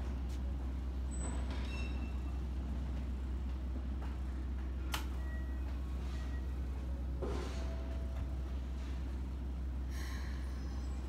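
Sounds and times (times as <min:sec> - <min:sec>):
train equipment humming: 0:00.0 - 0:11.0.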